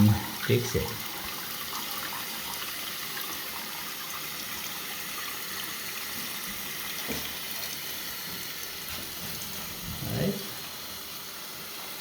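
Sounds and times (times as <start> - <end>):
water filling toilet cistern: 0.0 - 12.0.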